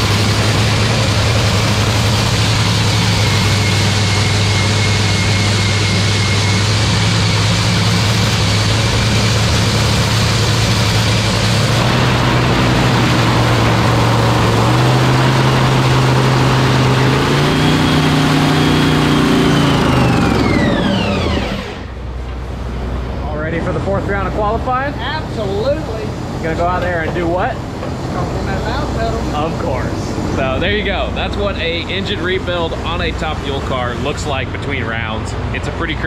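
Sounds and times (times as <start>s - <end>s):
engine spinning down: 0.0s - 27.6s, 28.2s - 36.0s
dragster engine idling and revving: 0.0s - 36.0s.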